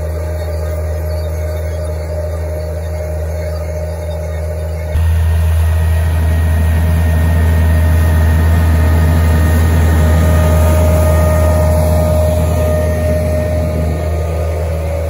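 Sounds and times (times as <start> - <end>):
steady whine: 0.0 - 15.0
tractor diesel engine under load: 0.0 - 15.0.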